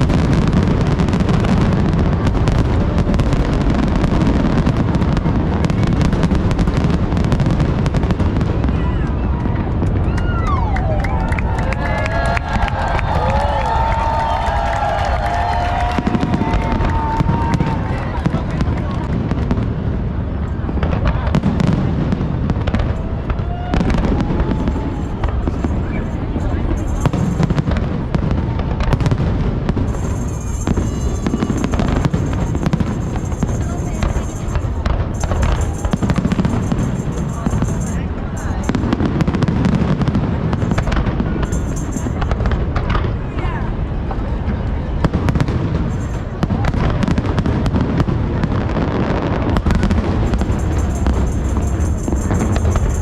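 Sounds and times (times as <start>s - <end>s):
fireworks popping and crackling: 0.0s - 53.0s.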